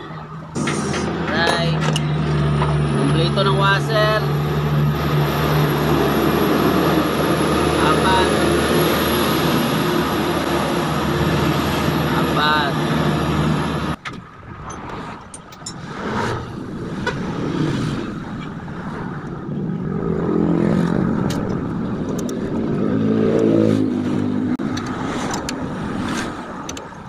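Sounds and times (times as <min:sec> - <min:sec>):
steady engine hum: 0:00.0 - 0:27.0
vehicle engines running: 0:00.0 - 0:27.0.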